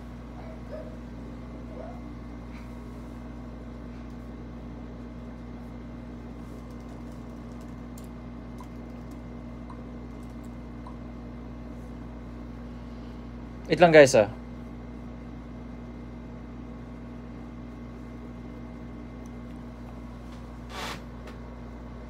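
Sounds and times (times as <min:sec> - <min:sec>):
low mechanical drone with tone: 0:00.0 - 0:22.0.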